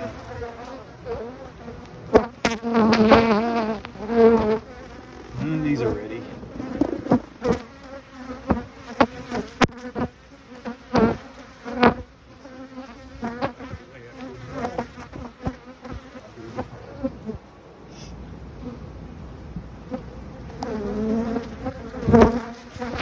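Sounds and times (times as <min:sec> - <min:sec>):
honeybees buzzing: 0:00.0 - 0:17.6, 0:19.7 - 0:23.0.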